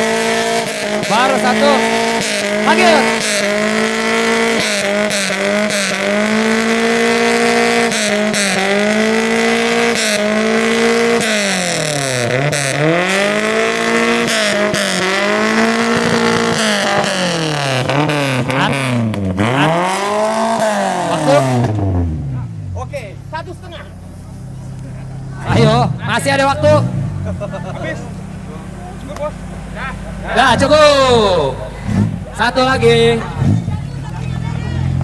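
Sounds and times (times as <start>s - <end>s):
car engine revving high: 0.0s - 35.0s.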